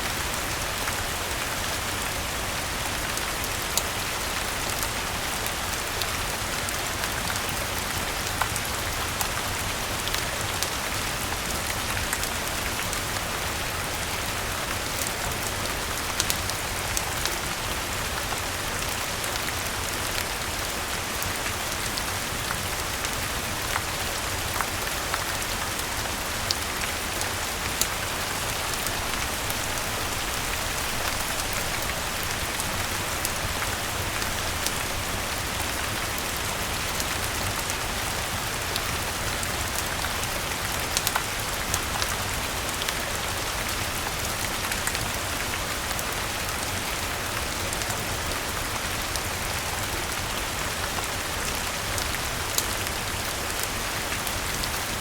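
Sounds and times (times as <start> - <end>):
rain on leaves: 0.0 - 55.0.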